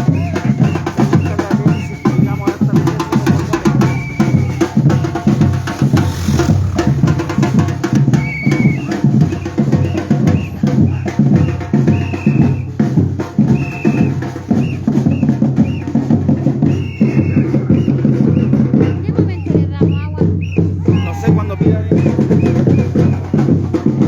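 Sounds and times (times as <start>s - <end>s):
bass drums and snares: 0.0s - 24.0s.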